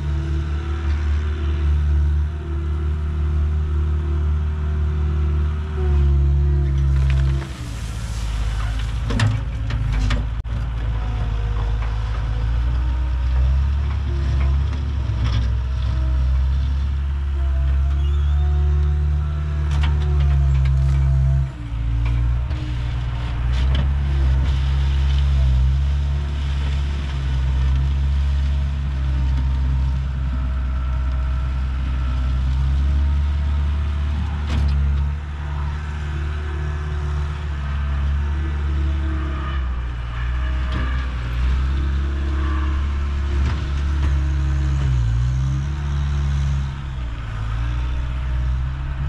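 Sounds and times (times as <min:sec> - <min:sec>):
skid steer diesel engine running: 0:00.0 - 0:49.0.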